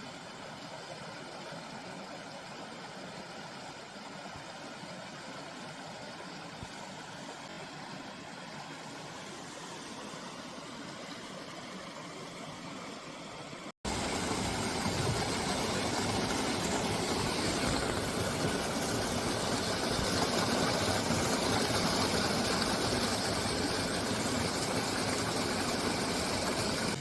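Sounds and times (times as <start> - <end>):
stream water running over rocks: 0.0 - 27.0.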